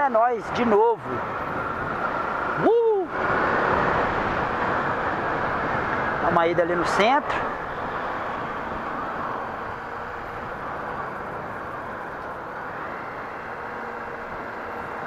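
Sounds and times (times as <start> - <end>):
wind noise on microphone: 0.3 - 15.0.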